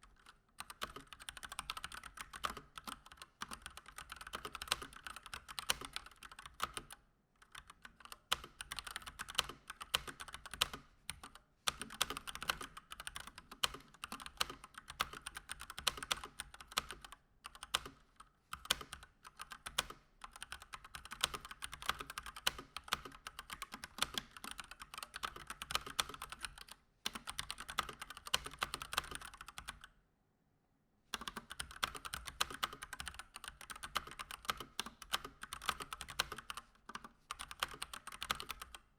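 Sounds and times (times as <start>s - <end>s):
mechanical keyboard typing: 0.0s - 29.9s, 31.2s - 38.9s.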